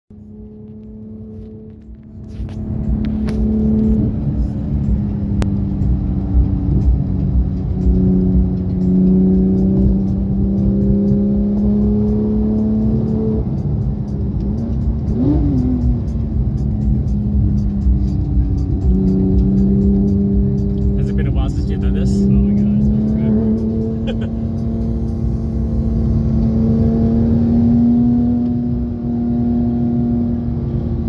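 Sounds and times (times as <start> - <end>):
car engine droning from cabin: 0.1 - 31.0.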